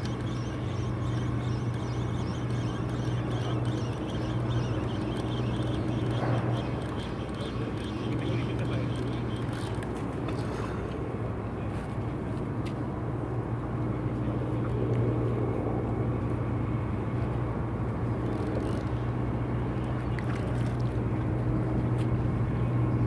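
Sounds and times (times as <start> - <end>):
low engine hum: 0.0 - 23.0
outdoor background noise: 0.0 - 23.0.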